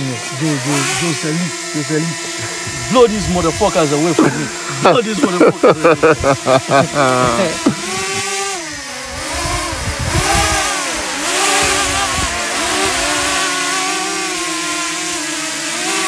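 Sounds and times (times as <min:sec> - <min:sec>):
motor running with varying pitch: 0:00.0 - 0:16.0.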